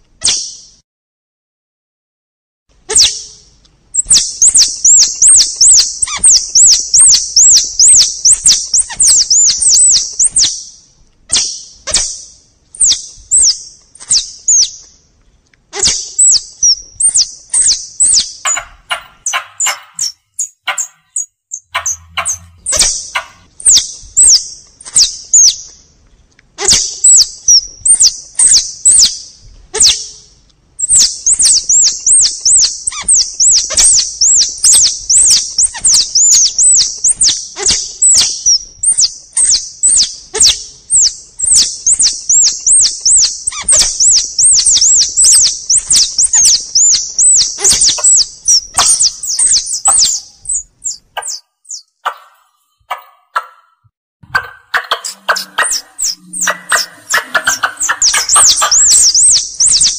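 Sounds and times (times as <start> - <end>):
high-pitched squirrel call chirps: 0.2 - 0.8, 2.9 - 14.9, 15.7 - 25.8, 26.6 - 59.9.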